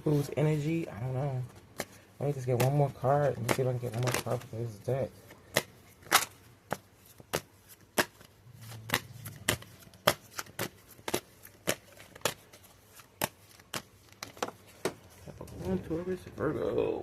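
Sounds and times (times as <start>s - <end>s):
cards being shuffled: 0.1s - 15.9s.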